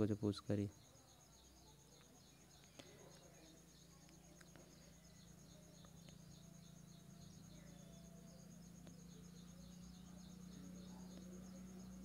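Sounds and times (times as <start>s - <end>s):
faint insect chirping: 0.0s - 12.0s
steady low hum: 0.0s - 12.0s.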